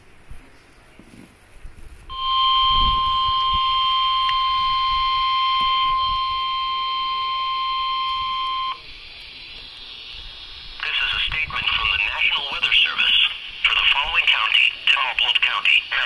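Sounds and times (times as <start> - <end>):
weather radio alarm tone: 2.1 - 16.0.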